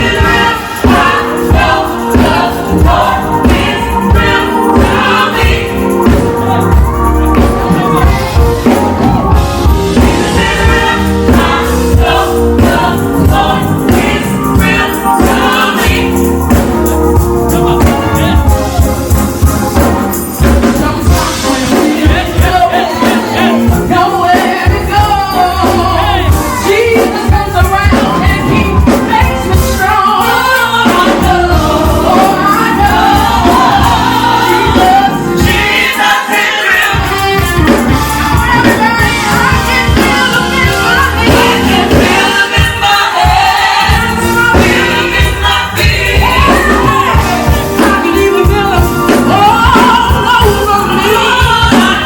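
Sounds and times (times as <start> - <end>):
band with heavy bass: 0.0 - 52.0
gospel singers: 0.0 - 52.0.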